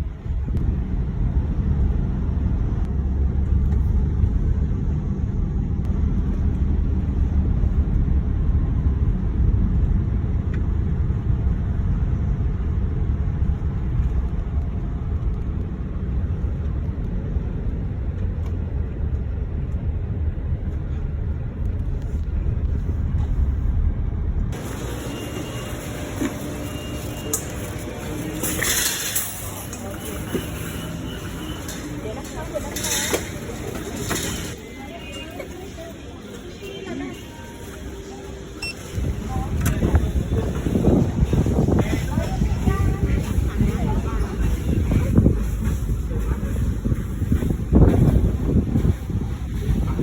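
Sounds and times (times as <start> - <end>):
car engine rumble: 0.0 - 34.6, 37.6 - 50.0.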